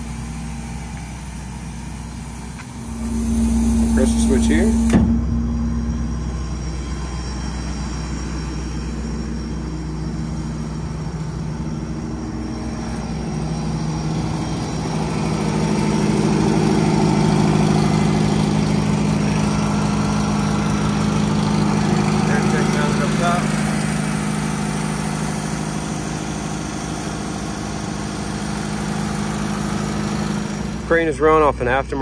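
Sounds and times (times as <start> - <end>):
air compressor humming: 0.0 - 32.0
diesel engine idling: 0.0 - 32.0.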